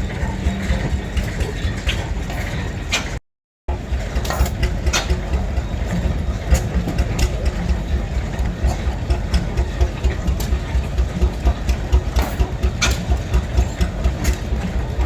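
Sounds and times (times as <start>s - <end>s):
old engine running slowly: 0.0s - 3.0s, 3.7s - 15.0s.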